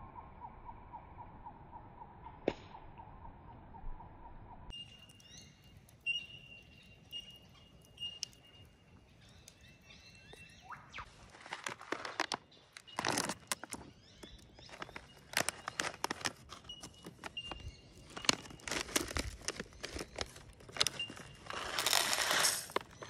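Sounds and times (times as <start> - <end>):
bird chirps: 0.0 - 23.0.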